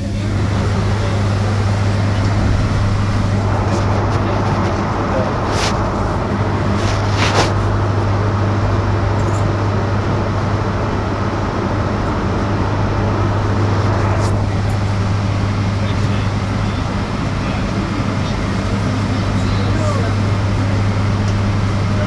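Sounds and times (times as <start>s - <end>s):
electric bus cabin hum: 0.0s - 22.0s
road noise: 0.0s - 22.0s.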